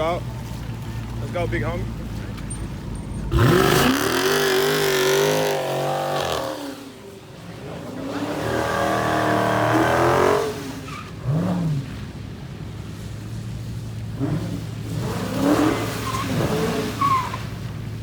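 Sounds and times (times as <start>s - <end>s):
car engine revving: 1.9s - 17.8s.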